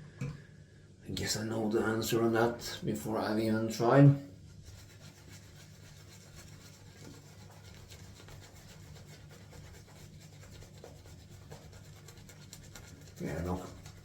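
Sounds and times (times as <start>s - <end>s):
shaving brush rubbing lather: 1.4s - 14.0s.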